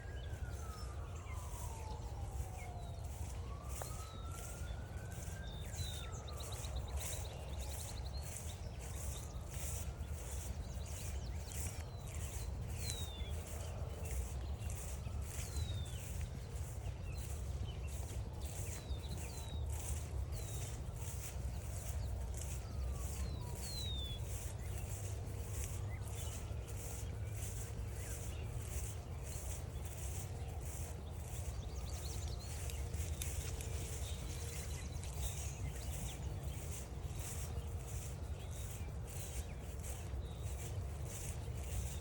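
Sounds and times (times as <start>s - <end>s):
footsteps crunching on trail: 0.0s - 42.0s.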